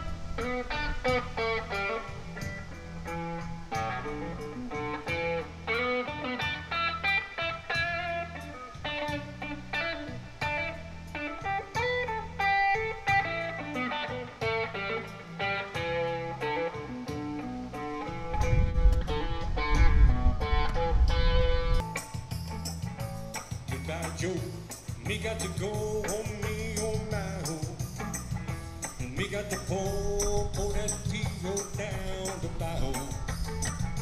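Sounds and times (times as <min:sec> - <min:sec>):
electric guitar blues lead: 0:00.0 - 0:34.0.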